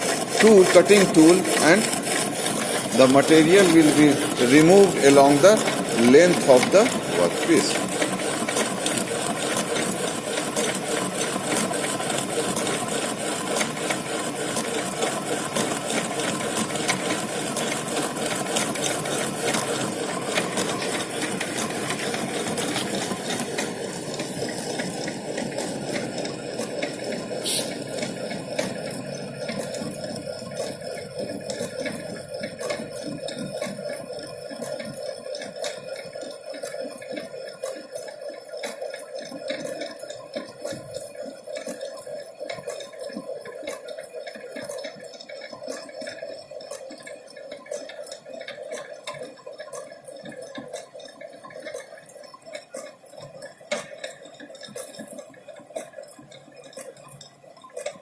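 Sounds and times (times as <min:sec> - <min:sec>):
lathe rattling: 0:00.0 - 0:58.0.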